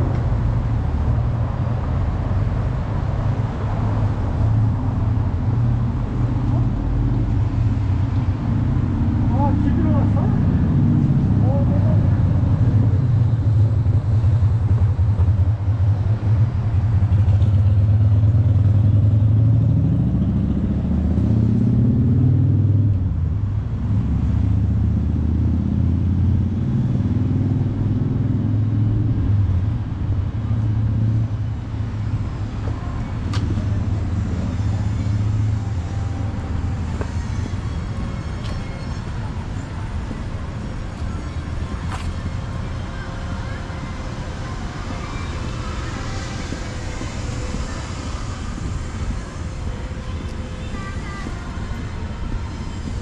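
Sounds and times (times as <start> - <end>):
street traffic: 0.0 - 53.0
vehicle engine accelerating: 0.0 - 53.0.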